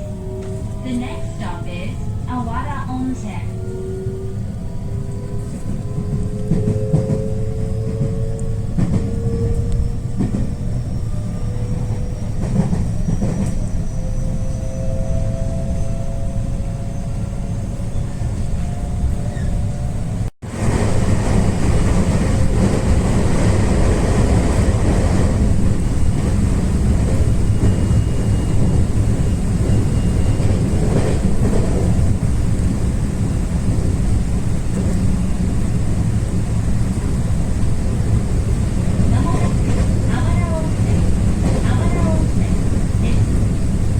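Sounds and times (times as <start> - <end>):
passenger train rumbling on tracks: 0.0 - 43.9.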